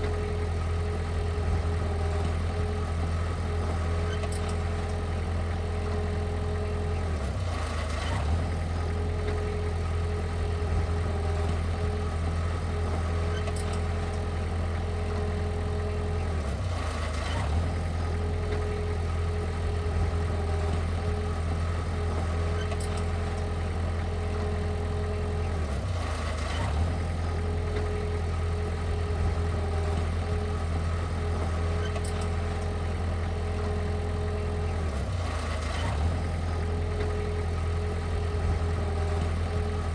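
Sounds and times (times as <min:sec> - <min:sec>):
heavy machinery engine idling: 0:00.0 - 0:39.9.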